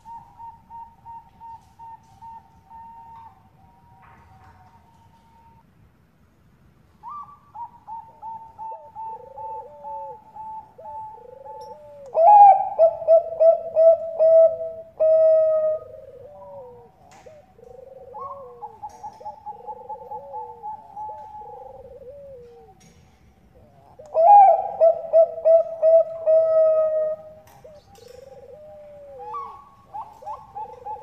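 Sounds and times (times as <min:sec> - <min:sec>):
doves cooing: 0:00.0 - 0:05.6, 0:07.0 - 0:31.0.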